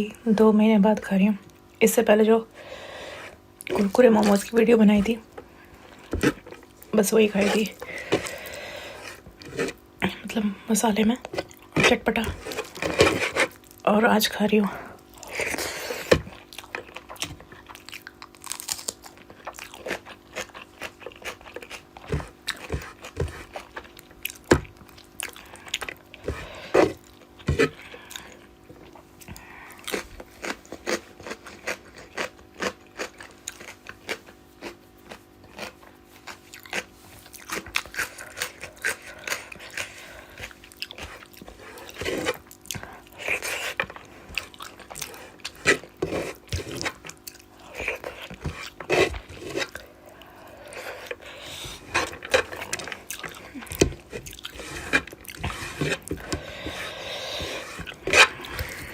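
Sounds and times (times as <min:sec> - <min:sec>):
faint steady hum: 0:00.0 - 0:58.9
person chewing food: 0:02.7 - 0:10.3, 0:11.2 - 0:13.8, 0:14.8 - 0:58.9.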